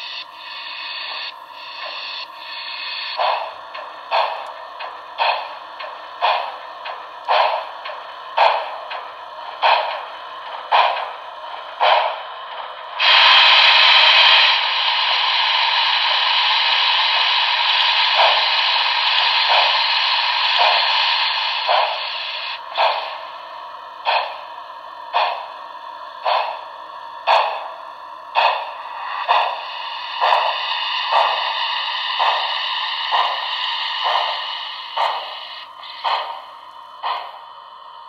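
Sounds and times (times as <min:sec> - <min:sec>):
loud steam hiss: 0:00.0 - 0:37.6
model steam locomotive chuffs: 0:00.0 - 0:38.0.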